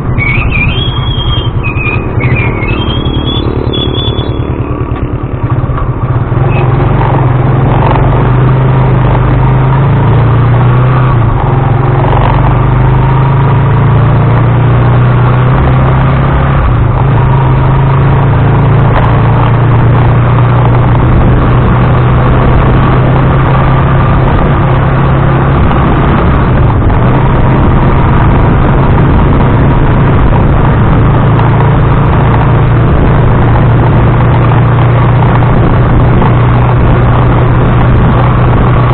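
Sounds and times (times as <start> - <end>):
motorcycle engine drone: 0.0 - 38.9
road and vibration noise: 0.0 - 38.9.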